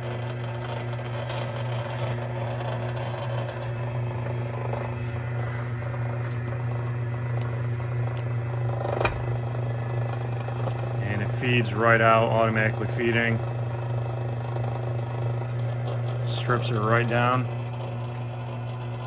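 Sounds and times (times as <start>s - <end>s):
wire stripping machine motor humming: 0.0s - 19.0s.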